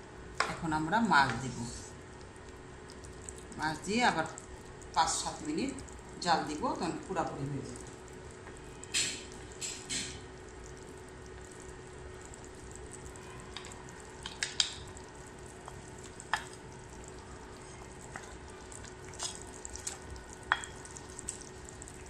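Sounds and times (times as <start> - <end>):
curry bubbling in a wok: 1.9 - 22.0.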